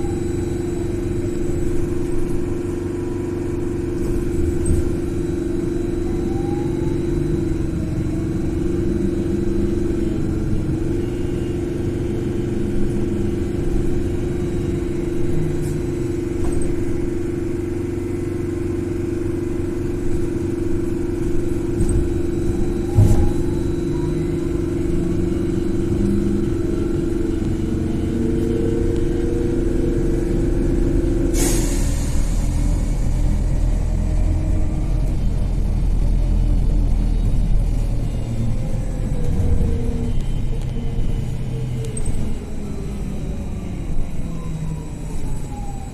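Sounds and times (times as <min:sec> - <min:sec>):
road rumble: 0:00.0 - 0:45.9
traction drive whine: 0:00.0 - 0:45.9.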